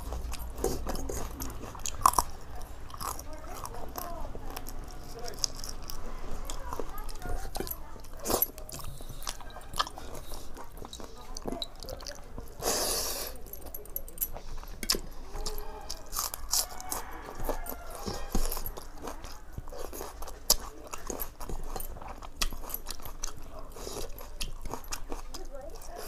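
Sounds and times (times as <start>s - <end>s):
person chewing and crunching: 0.0s - 26.0s.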